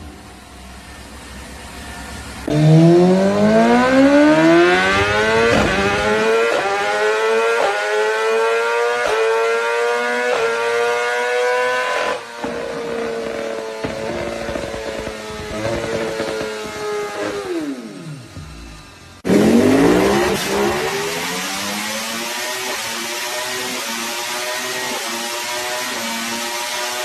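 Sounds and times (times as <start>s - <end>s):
superbike engine accelerating: 0.0s - 27.0s.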